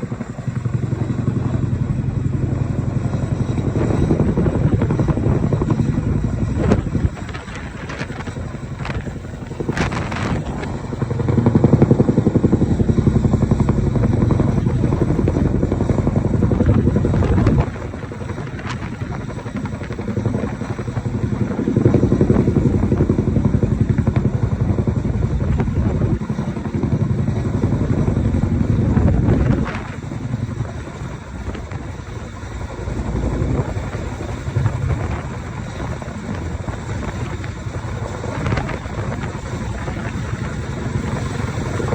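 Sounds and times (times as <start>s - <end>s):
helicopter rotors chopping: 0.0s - 41.9s.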